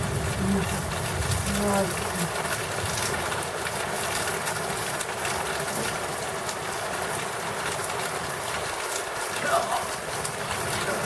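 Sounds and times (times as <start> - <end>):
raindrops pattering: 0.0 - 11.0
steady rain hiss: 0.0 - 11.0.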